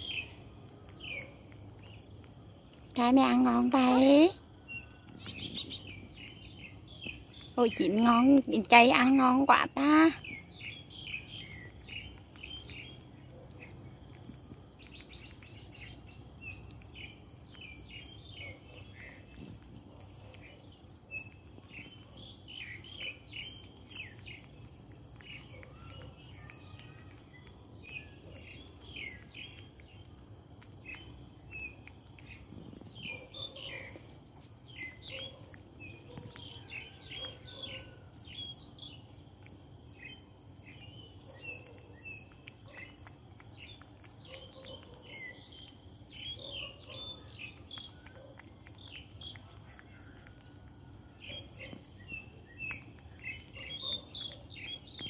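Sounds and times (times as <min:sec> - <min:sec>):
bird chirps: 0:00.0 - 0:02.0, 0:03.0 - 0:13.9, 0:14.8 - 0:24.6, 0:25.2 - 0:30.1, 0:30.8 - 0:39.0, 0:40.0 - 0:55.0
insect trilling: 0:02.7 - 0:55.0.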